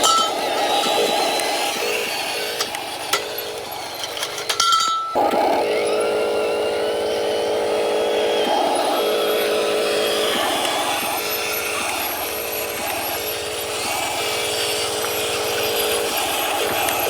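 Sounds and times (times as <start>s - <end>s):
model truck motor drone: 0.0s - 17.0s.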